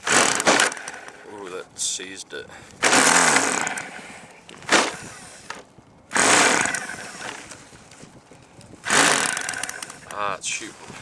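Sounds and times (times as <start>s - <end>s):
small engine sputtering: 0.0s - 1.3s, 2.6s - 11.0s.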